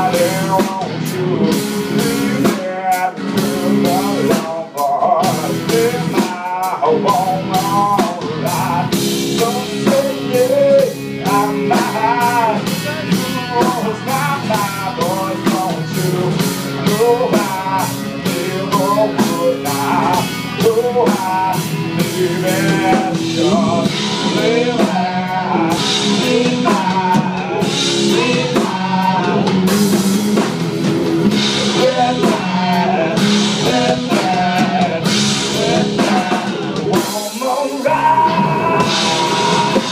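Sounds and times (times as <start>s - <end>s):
distorted electric guitar: 0.0s - 39.9s
drum kit: 0.0s - 39.9s
electric bass: 0.0s - 39.9s.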